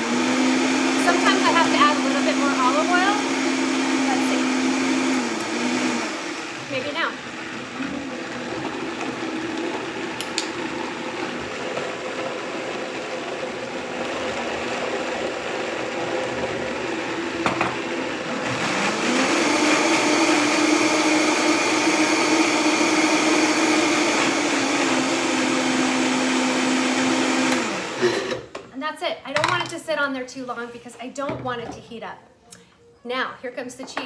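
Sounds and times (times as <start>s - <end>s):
blender motor whining: 0.0s - 28.5s.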